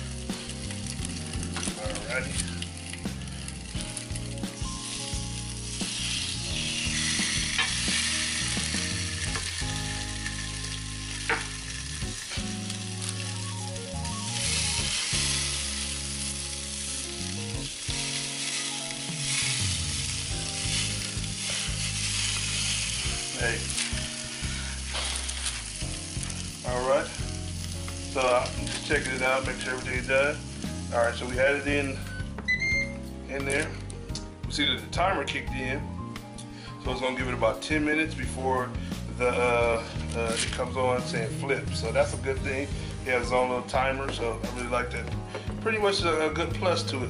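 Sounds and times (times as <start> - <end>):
fish sizzling on a grill: 0.0 - 32.3, 33.0 - 47.0.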